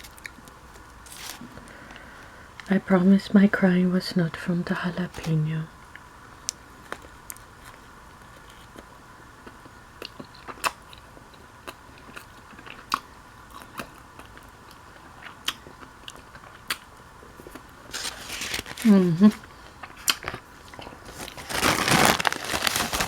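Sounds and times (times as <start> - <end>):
person chewing sandwich: 0.0 - 2.1, 5.9 - 23.0.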